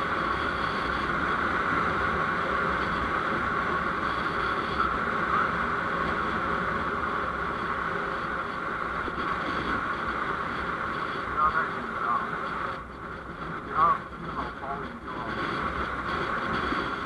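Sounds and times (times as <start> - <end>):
vehicle engine and road hum: 0.0 - 17.0.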